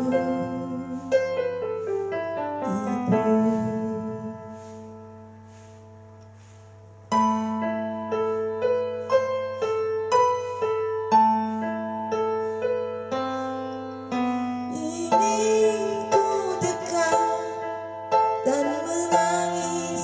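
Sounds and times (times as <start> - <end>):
slow piano ballad on keyboard: 0.0 - 20.0.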